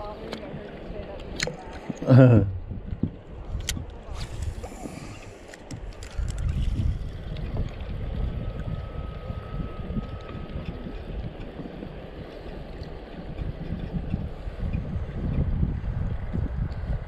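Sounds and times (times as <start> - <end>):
river water around boat: 0.0 - 17.0
wind buffeting microphone: 0.0 - 17.0.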